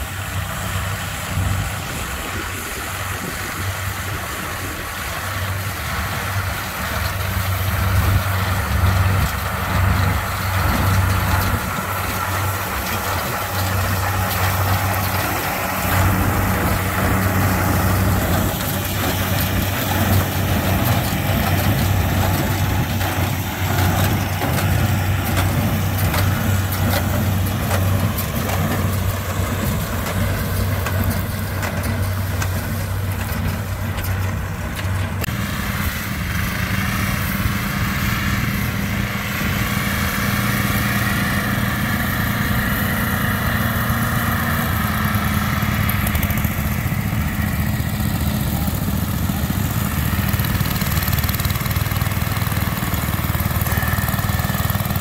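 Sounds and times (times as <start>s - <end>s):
baler working: 0.0s - 55.0s
garden tractor engine under load: 0.0s - 55.0s
tractor engine running: 0.0s - 55.0s.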